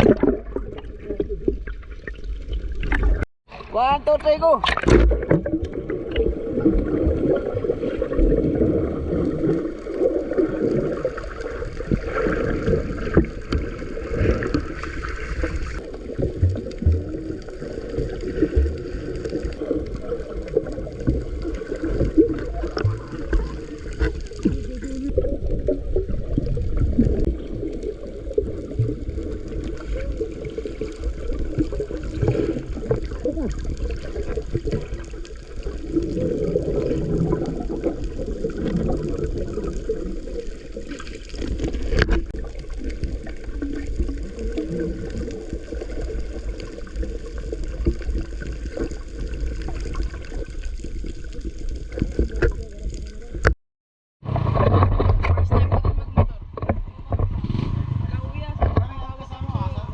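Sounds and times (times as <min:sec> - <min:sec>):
water sloshing and gurgling: 0:00.0 - 0:53.6, 0:54.2 - 0:59.9
low uneven rumble: 0:05.2 - 0:53.5, 0:54.2 - 0:59.9.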